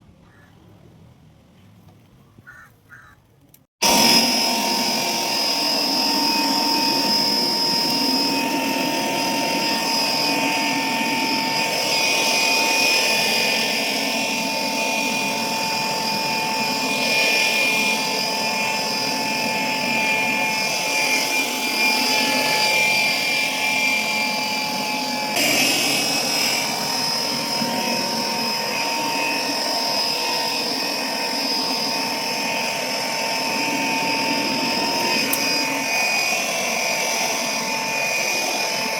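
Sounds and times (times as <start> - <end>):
air blower running: 3.8 - 38.9.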